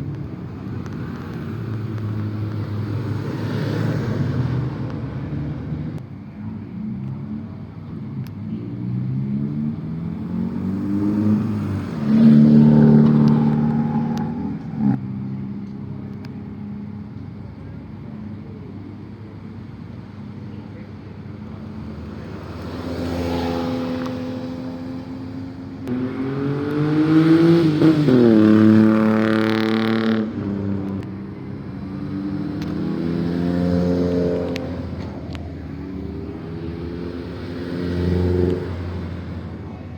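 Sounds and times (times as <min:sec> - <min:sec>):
cars accelerating past: 0:00.0 - 0:06.0, 0:08.4 - 0:17.0, 0:21.2 - 0:39.9.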